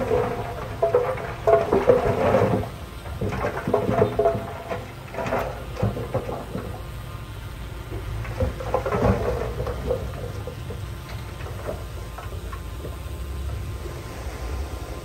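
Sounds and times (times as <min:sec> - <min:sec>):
machinery clanks: 0:00.0 - 0:14.0
diesel engine rumbling under load: 0:00.0 - 0:15.0.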